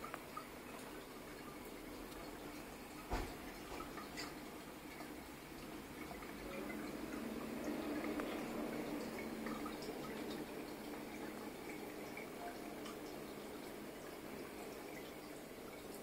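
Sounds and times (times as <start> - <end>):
faint steady hum: 0.0 - 16.0
water trickling and dripping: 0.0 - 16.0.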